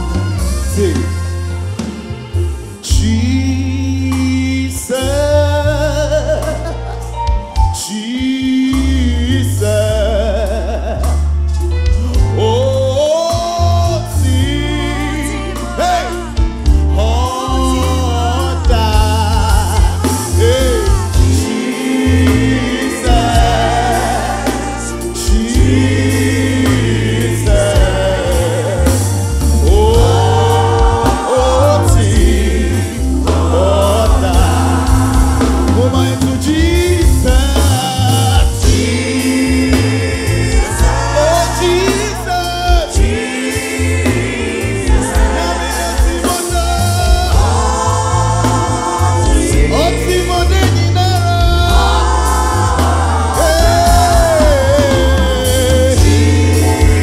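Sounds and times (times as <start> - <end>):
man singing lead: 0.0 - 1.4, 2.7 - 57.0
backing voices singing: 0.0 - 57.0
drum kit: 0.0 - 57.0
heavy bass line: 0.0 - 57.0
keyboard: 0.0 - 57.0.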